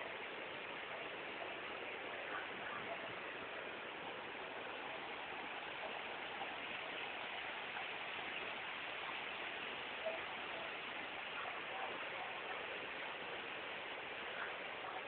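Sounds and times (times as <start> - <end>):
rushing floodwater in ravine: 0.0 - 15.0.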